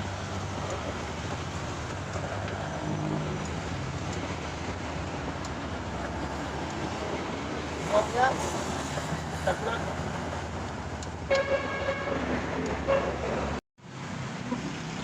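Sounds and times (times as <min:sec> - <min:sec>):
motor vehicle noise: 0:00.0 - 0:15.0.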